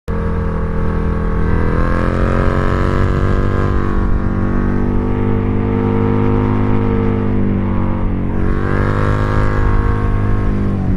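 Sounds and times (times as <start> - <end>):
motorcycle engine running: 0.1 - 10.9.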